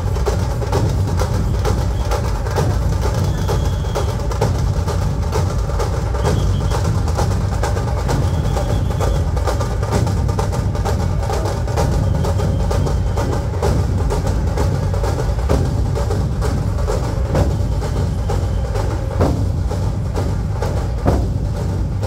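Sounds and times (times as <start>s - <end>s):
massed drums playing loud rhythm: 0.0s - 22.0s.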